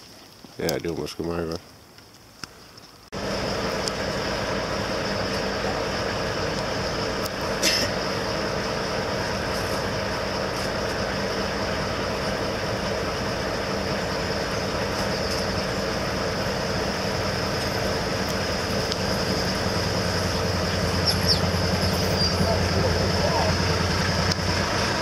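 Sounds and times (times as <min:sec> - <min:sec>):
vehicle engine drone: 0:03.1 - 0:25.0.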